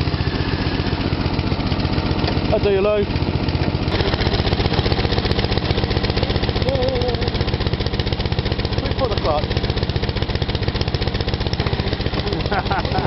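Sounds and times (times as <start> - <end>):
ride-on mower engine idling: 0.0 - 13.0.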